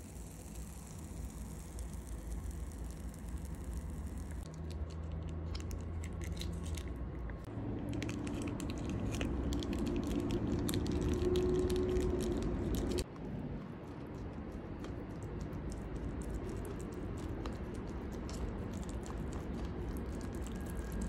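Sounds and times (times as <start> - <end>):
biting and chewing: 0.0 - 21.0
steady low hum: 0.0 - 21.0.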